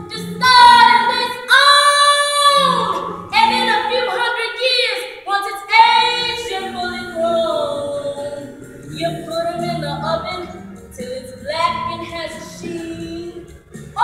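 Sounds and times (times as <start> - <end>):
woman singing unaccompanied: 0.1 - 14.0.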